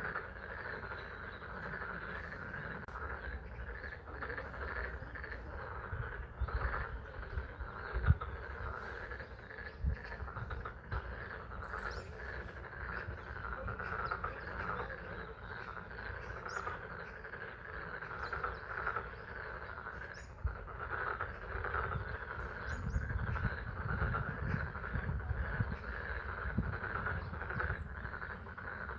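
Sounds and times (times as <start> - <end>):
frogs calling: 0.0 - 28.9.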